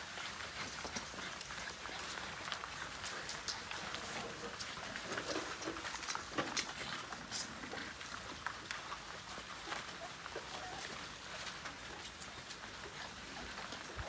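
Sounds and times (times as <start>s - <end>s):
puppies moving about: 0.0s - 14.0s.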